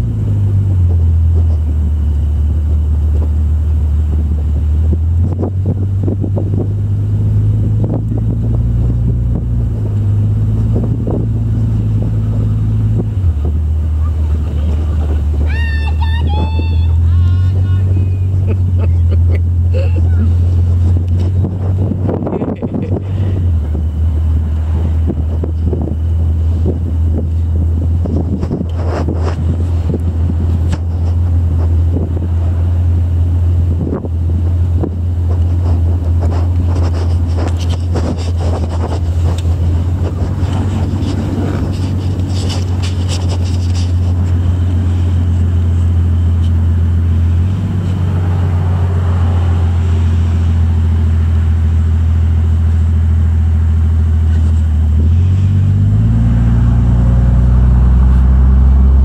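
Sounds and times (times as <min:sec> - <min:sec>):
car engine and road noise: 0:00.0 - 0:59.0
wind buffeting microphone: 0:00.0 - 0:59.0.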